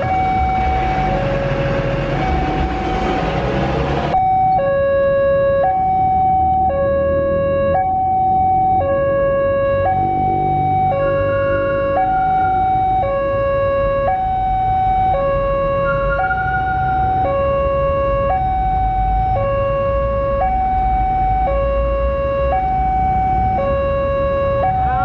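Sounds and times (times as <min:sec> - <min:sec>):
level crossing two-tone alarm: 0:00.0 - 0:01.4, 0:04.2 - 0:25.0.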